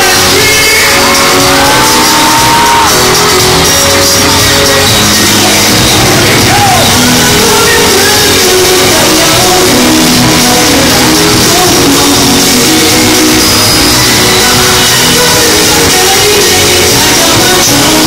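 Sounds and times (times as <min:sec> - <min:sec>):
live pop concert music with singing: 0:00.0 - 0:18.0.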